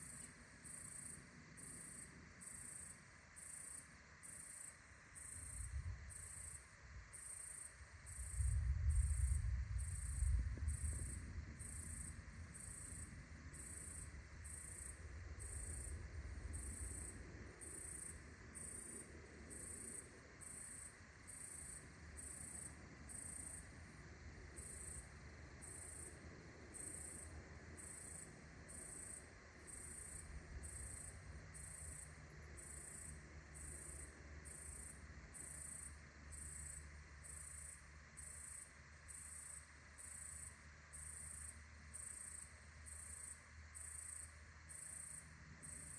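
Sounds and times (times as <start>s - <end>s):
cricket chirping: 0.0s - 45.9s.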